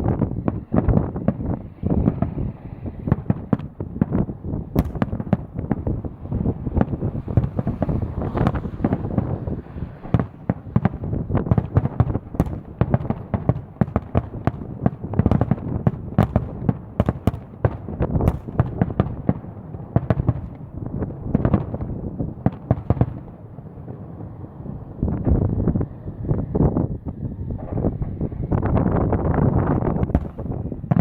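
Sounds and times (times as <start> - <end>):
fireworks bangs and crackles: 0.0 - 31.0
wind buffeting microphone: 0.0 - 31.0.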